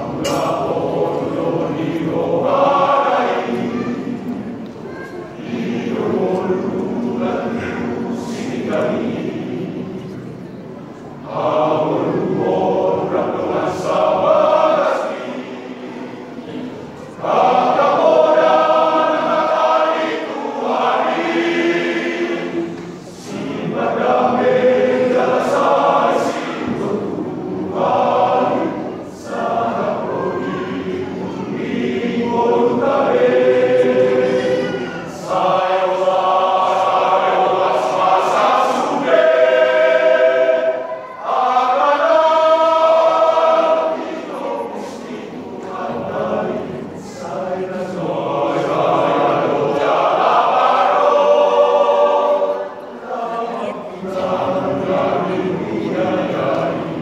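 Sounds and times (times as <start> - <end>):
men's choir singing: 0.0 - 10.2, 11.2 - 57.0.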